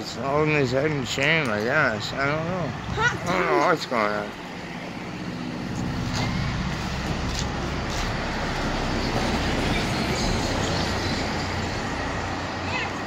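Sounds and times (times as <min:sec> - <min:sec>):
motor vehicle passing: 0:02.0 - 0:13.0.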